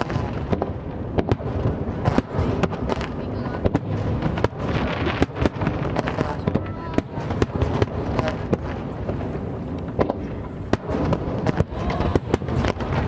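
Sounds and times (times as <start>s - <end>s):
firework shell bursts and crackling: 0.0s - 13.0s.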